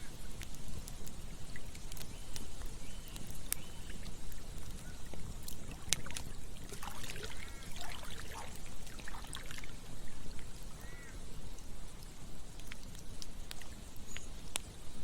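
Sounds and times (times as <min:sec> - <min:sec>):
campfire crackling: 0:00.0 - 0:15.0
trickling stream gurgling: 0:00.0 - 0:15.0.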